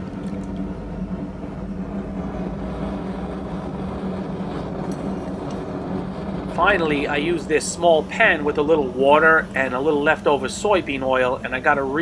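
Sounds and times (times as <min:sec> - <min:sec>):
forge humming: 0:00.0 - 0:12.0
faint rushing noise: 0:00.7 - 0:12.0.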